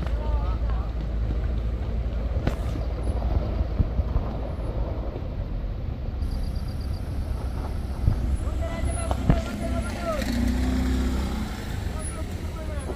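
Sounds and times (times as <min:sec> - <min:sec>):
car engine labouring uphill: 0:00.0 - 0:12.9
diesel earthmoving machinery: 0:00.0 - 0:12.9.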